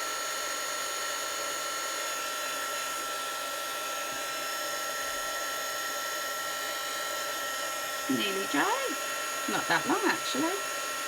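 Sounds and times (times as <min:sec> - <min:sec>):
electric heat gun whining: 0:00.0 - 0:11.0.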